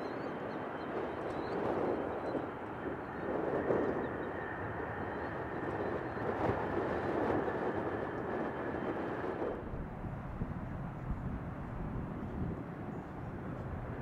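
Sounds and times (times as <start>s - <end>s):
distant jet engines roaring: 0.0s - 14.0s.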